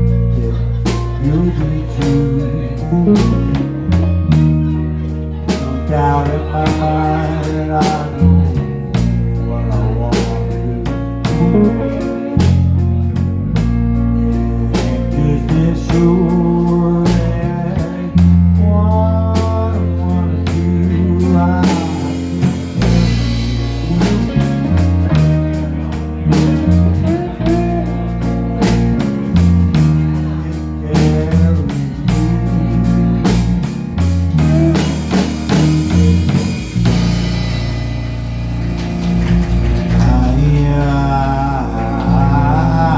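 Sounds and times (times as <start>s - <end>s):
bass guitar: 0.0s - 42.9s
drum kit steady beat: 0.0s - 42.9s
lead guitar bending notes: 0.0s - 42.9s.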